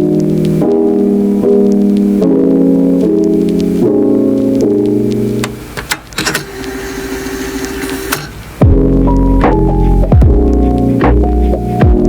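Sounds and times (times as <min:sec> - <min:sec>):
soft keyboard chords: 0:00.0 - 0:05.8, 0:07.1 - 0:12.0.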